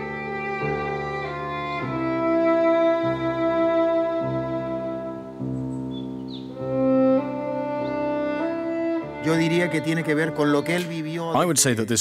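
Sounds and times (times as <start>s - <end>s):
bowed strings sustained chords: 0.0s - 11.9s.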